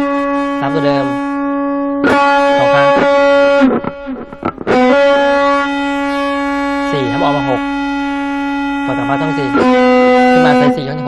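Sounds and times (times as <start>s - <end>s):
distorted electric guitar lead: 0.0s - 11.0s.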